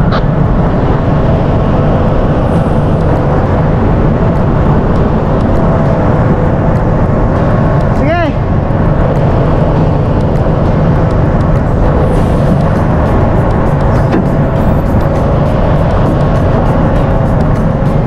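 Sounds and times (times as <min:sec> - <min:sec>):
ship machinery rumble: 0:00.0 - 0:18.0.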